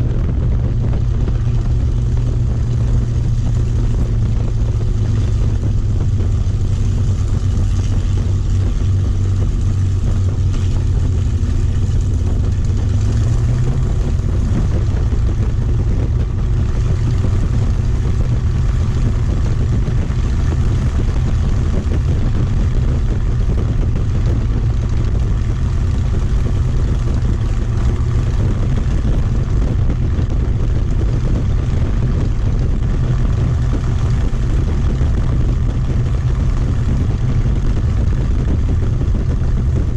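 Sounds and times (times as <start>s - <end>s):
piston aero engine droning: 0.0s - 39.9s.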